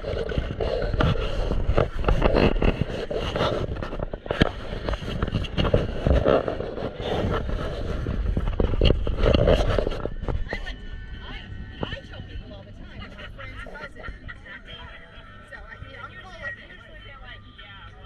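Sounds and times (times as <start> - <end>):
boat motor running: 0.0 - 17.3.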